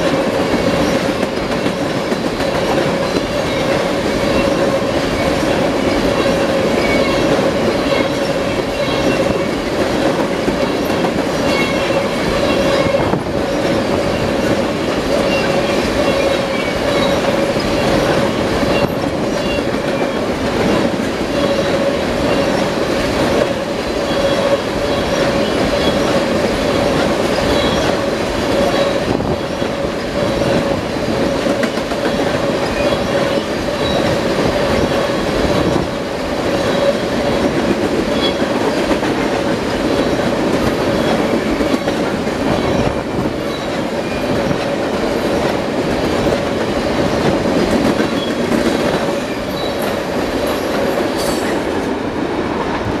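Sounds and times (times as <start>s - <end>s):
wheels clacking over rail joints: 0.0s - 52.0s
train wheels rumbling: 0.0s - 53.0s.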